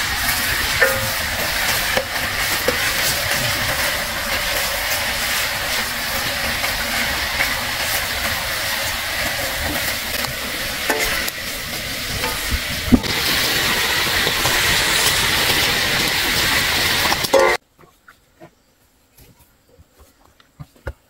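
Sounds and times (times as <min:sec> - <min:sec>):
food sizzling in hot oil: 0:00.0 - 0:17.6.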